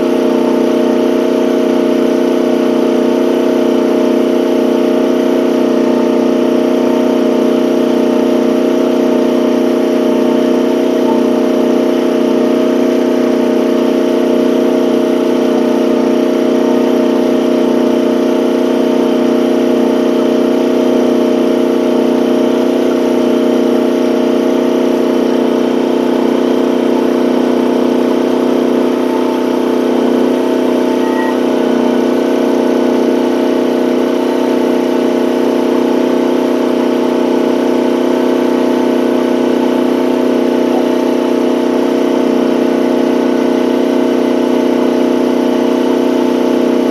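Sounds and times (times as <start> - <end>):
excavator engine running: 0.0 - 46.9
hydraulic auger boring into ground: 0.0 - 46.9.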